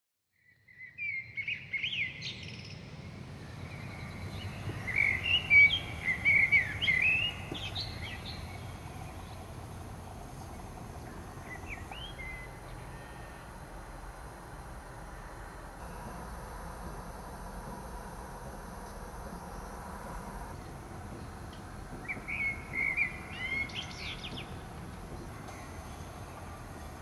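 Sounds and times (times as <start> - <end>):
songbirds singing: 0.4 - 27.0
steady low rumble: 3.0 - 27.0.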